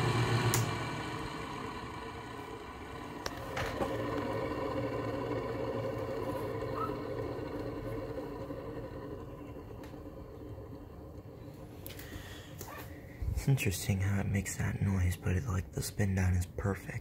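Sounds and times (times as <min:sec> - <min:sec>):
air conditioner fan spinning down: 0:00.0 - 0:17.0.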